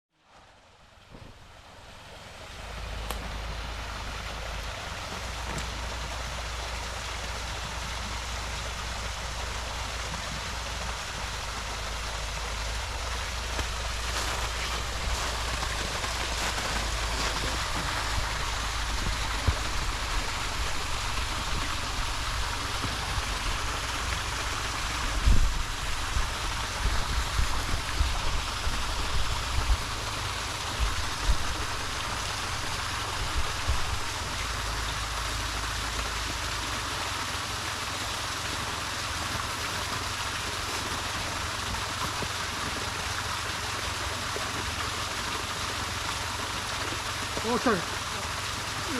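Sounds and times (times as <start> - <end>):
stream rushing over rocks: 0.4 - 48.9.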